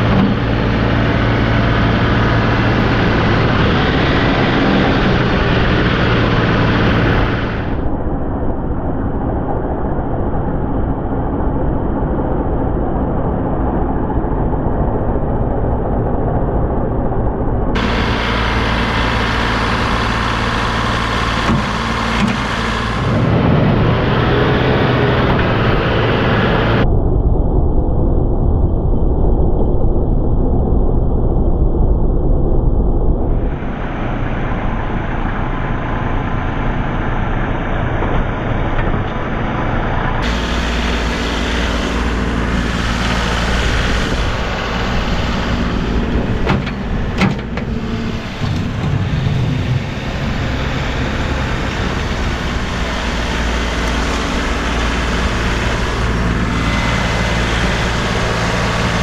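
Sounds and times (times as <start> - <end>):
tractor engine running: 0.0 - 26.8, 33.3 - 59.0.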